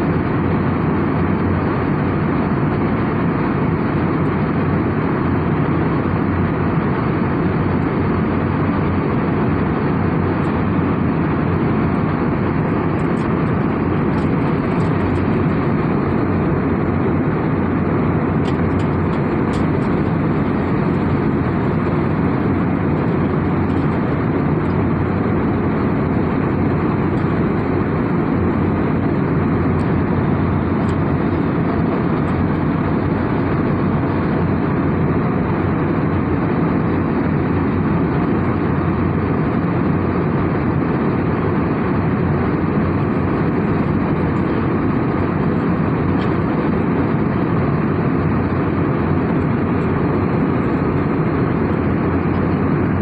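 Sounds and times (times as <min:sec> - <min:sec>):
airliner cabin engine noise: 0:00.0 - 0:53.0.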